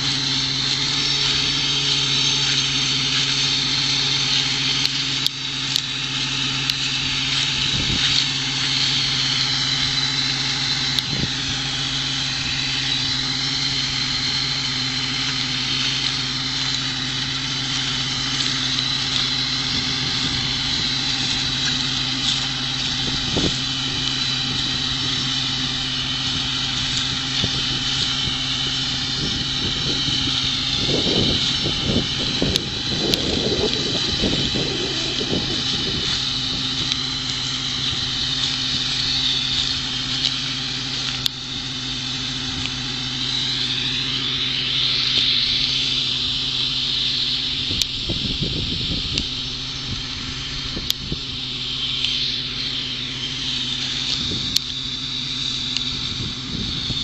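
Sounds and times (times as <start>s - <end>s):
irregular low rumbling: 0.0s - 57.0s
tractor diesel engine running: 0.0s - 57.0s.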